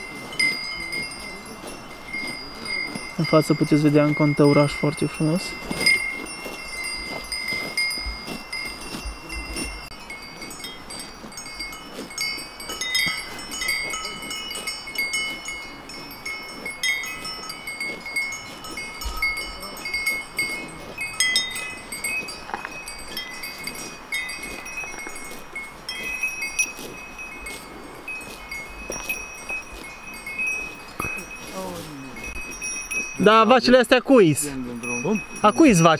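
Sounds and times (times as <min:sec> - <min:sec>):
cattle bells clanking: 0:00.0 - 0:35.9.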